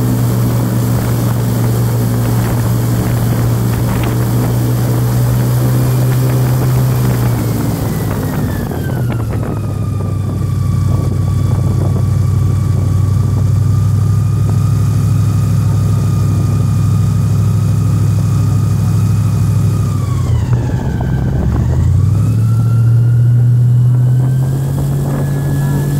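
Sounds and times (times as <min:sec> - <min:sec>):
airboat engine and propeller: 0:00.0 - 0:25.9.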